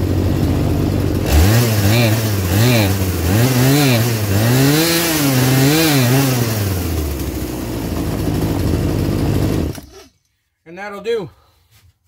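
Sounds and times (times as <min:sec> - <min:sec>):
chainsaw engine revving and idling: 0:00.0 - 0:10.0.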